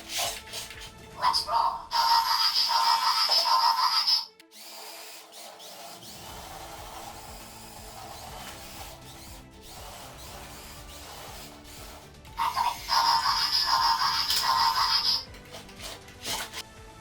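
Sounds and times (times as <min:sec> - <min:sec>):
toy electric motor whirring: 0:00.0 - 0:16.7
background music: 0:00.0 - 0:17.0.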